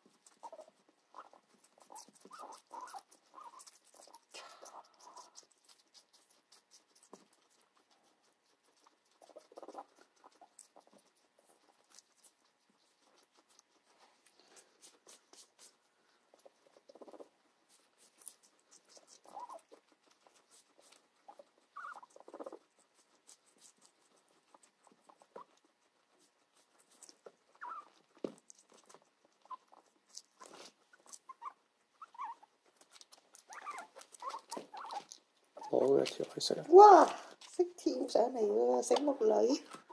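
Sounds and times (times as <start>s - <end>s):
guinea pig crunching food: 0.0s - 39.9s
soft rustles: 0.0s - 39.9s.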